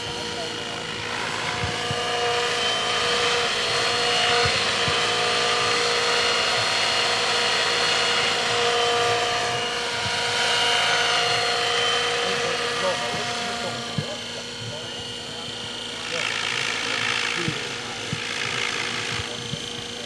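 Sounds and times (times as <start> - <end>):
model helicopter whine: 0.0 - 20.0.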